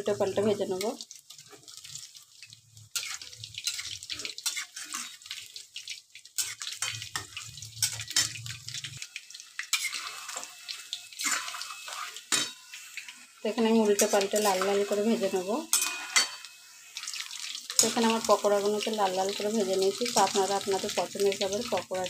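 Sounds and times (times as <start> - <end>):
food deep-frying in hot oil: 0.0 - 22.0.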